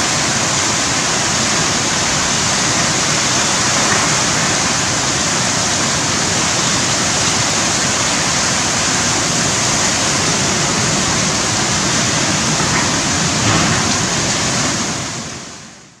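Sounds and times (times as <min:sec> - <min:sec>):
strong wind: 0:00.0 - 0:16.0
torrential rain pouring: 0:00.0 - 0:16.0.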